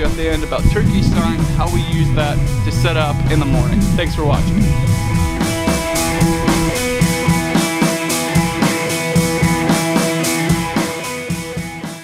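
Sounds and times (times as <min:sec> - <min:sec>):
music with drums and guitar: 0:00.0 - 0:12.0.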